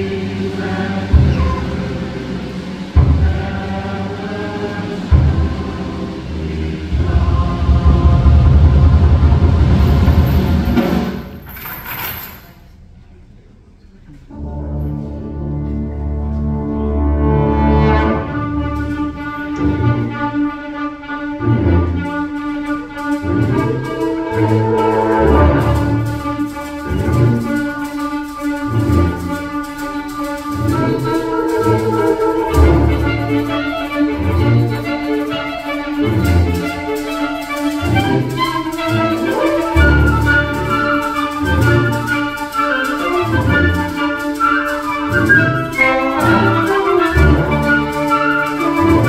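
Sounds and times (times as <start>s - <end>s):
concert band playing: 0.0s - 11.5s, 14.3s - 49.0s.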